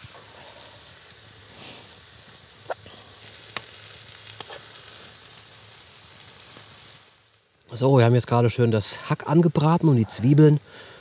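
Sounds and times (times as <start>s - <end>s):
meat and onions sizzling in a pan: 0.0s - 11.0s.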